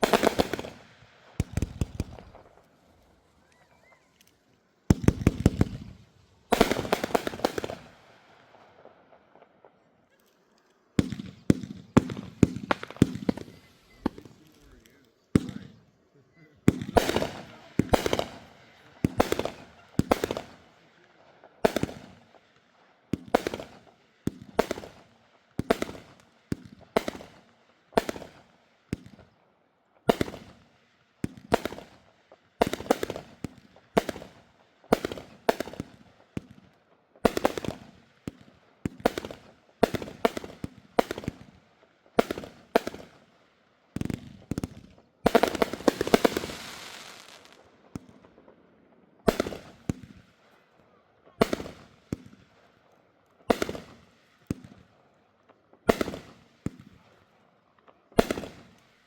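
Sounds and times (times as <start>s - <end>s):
fireworks bangs: 0.0s - 9.9s, 10.8s - 15.8s, 16.6s - 22.5s, 23.1s - 29.4s, 30.1s - 43.3s, 43.9s - 52.7s, 53.5s - 55.0s, 55.7s - 57.2s, 58.2s - 59.0s.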